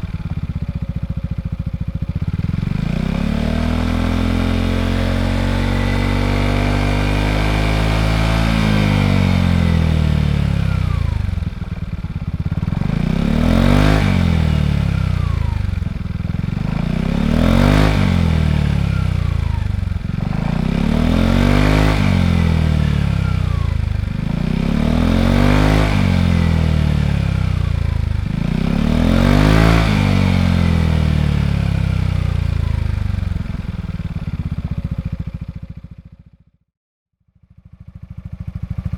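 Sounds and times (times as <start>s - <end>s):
scooter engine revving: 0.0s - 36.2s, 37.6s - 38.9s.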